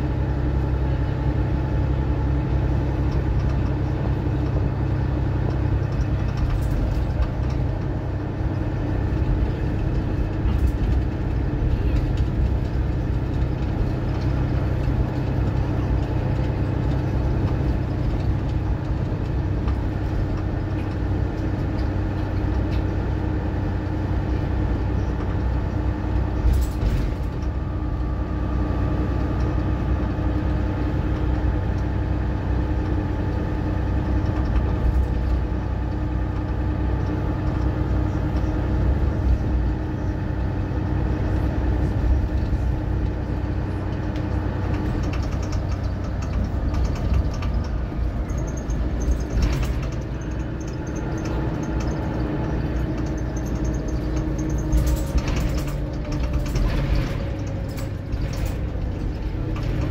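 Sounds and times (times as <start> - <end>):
bus engine droning with whine: 0.0 - 59.9.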